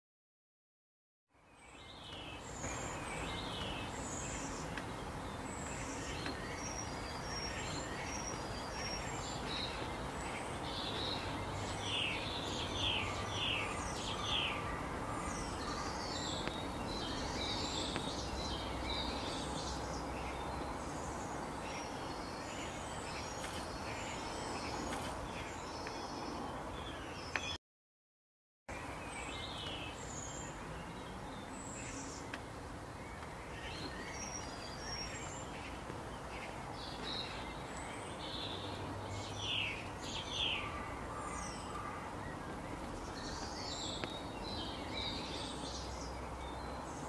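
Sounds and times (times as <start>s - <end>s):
outdoor background hiss: 1.3s - 27.6s, 28.7s - 47.0s
birds chirping and calling: 1.6s - 27.6s, 28.7s - 47.0s.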